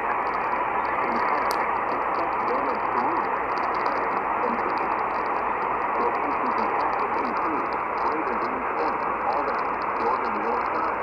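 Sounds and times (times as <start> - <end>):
radio static hiss: 0.0 - 11.0
faint voice: 1.0 - 5.0, 6.0 - 11.0.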